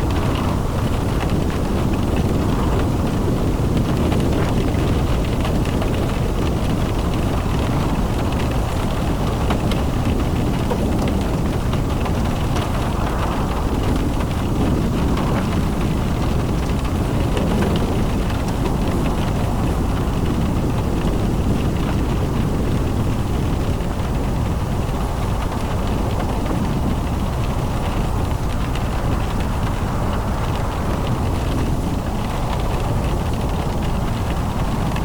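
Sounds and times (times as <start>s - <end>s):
car driving rumble: 0.0s - 35.0s
raindrops ticking: 0.0s - 35.0s
wind buffeting microphone: 0.0s - 35.0s.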